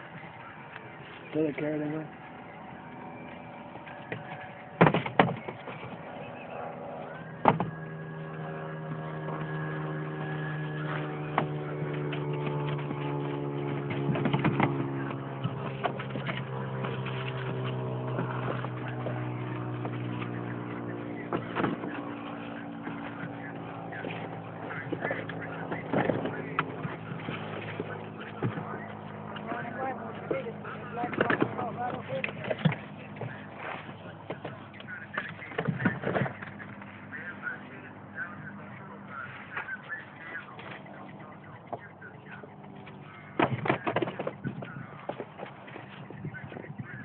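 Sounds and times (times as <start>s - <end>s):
engine running: 0.0s - 47.0s.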